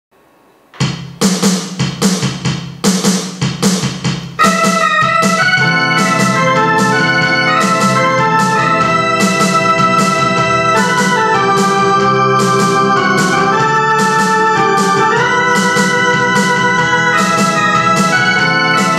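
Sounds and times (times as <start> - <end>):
electronic keyboard drum rhythm: 0.8 - 18.9
organ-voiced keyboard melody: 0.8 - 18.9.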